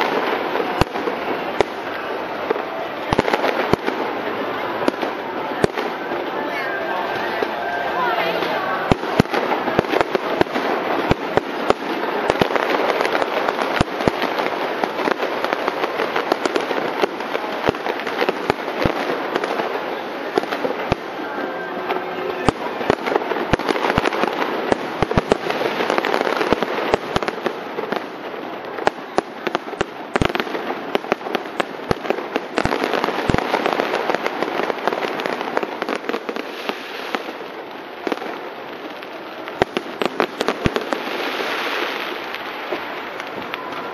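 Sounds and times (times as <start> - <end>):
fireworks bangs: 0.0 - 43.9
fireworks crackling: 0.0 - 43.9.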